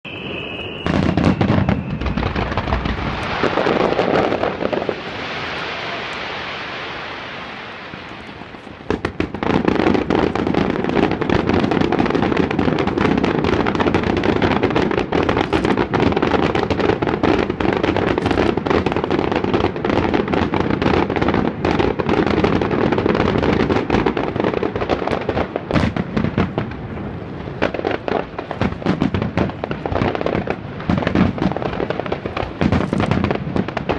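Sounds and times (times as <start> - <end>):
fireworks bangs and crackle: 0.0 - 33.9
fireworks hiss: 0.1 - 33.9.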